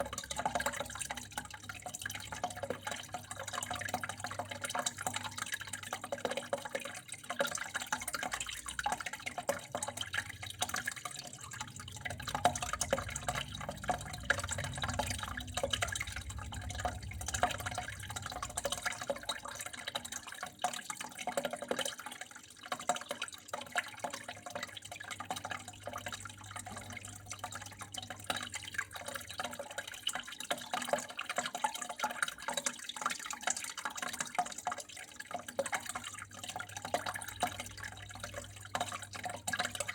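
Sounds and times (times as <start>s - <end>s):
small drips and trickles: 0.0s - 39.9s
water flowing and splashing: 0.0s - 39.9s.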